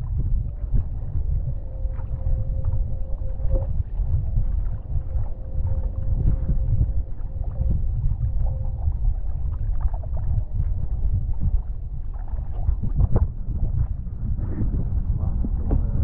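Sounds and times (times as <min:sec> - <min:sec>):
faint steady hum: 0:00.0 - 0:16.0
wind buffeting microphone: 0:00.0 - 0:16.0.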